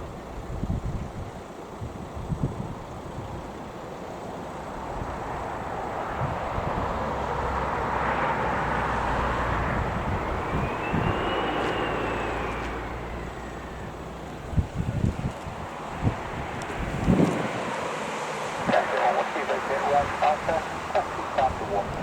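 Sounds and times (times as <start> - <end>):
wind buffeting microphone: 0.0 - 3.8, 4.6 - 17.9, 18.5 - 22.0
engine whine: 3.4 - 22.0
aircraft engine passing: 3.9 - 22.0.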